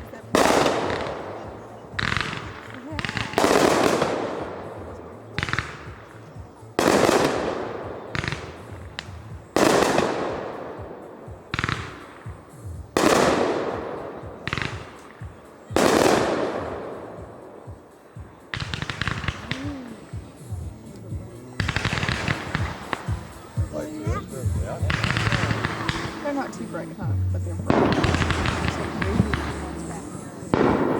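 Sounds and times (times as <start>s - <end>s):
fireworks booms with echoing rumble: 0.0s - 30.9s
fireworks pops and crackles: 0.0s - 30.9s.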